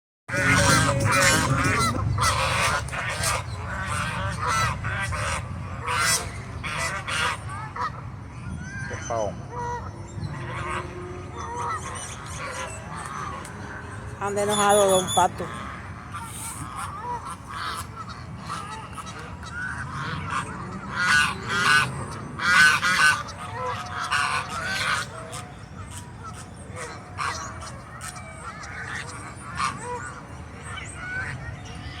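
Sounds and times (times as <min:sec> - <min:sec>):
geese honking: 0:00.3 - 0:08.1, 0:08.9 - 0:32.0.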